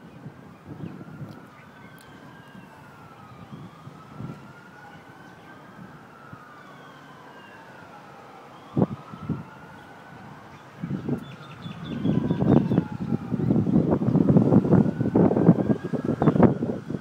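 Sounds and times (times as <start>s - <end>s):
faint wailing siren: 0.0s - 17.0s.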